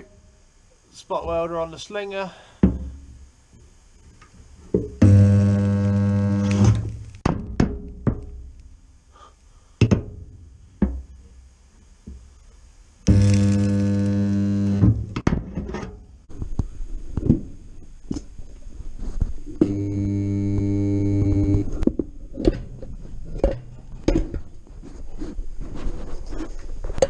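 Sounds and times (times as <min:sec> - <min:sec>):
spot welder electrical hum: 0:00.0 - 0:09.2, 0:10.2 - 0:24.8.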